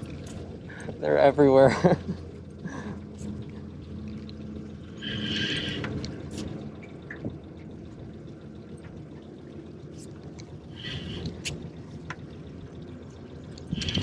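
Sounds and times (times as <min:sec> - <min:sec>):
water splashing against boat: 0:00.0 - 0:14.0.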